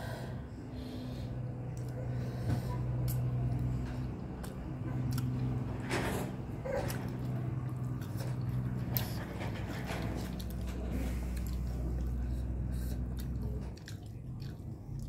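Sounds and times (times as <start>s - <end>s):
steady low hum: 0.0s - 15.0s
people chewing and lip smacking: 1.6s - 15.0s.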